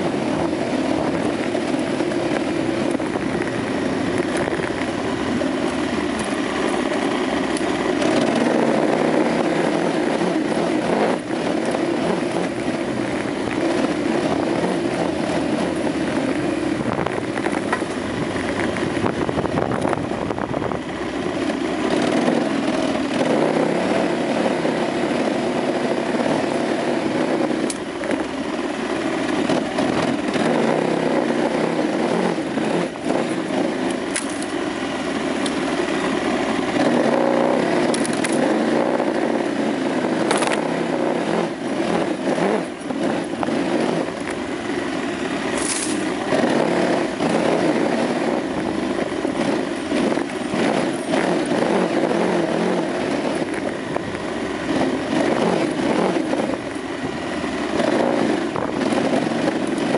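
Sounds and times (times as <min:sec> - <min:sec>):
motorcycle engine revving: 0:00.0 - 0:59.9
rush of noise: 0:00.0 - 0:59.9.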